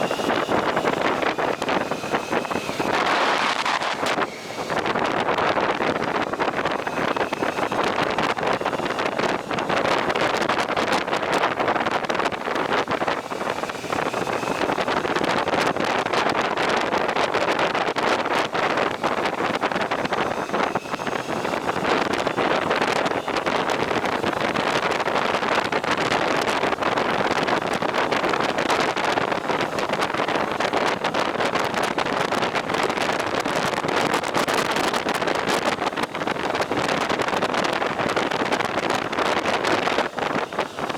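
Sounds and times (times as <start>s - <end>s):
motorcycle engine: 0.0s - 40.9s
road noise: 0.0s - 40.9s
wind buffeting microphone: 0.0s - 40.9s.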